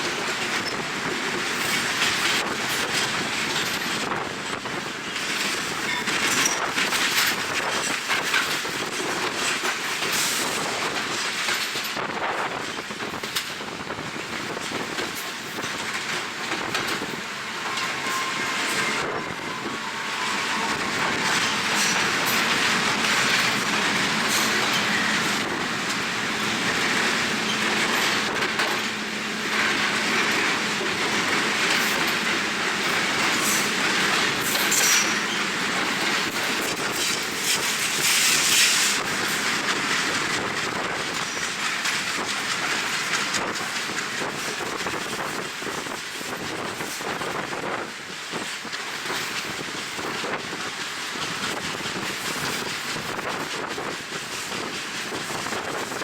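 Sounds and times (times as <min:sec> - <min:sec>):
train rolling rumble: 0:00.0 - 0:56.0
wheels clacking over rail joints: 0:00.0 - 0:56.0
wind on microphone: 0:00.1 - 0:56.0.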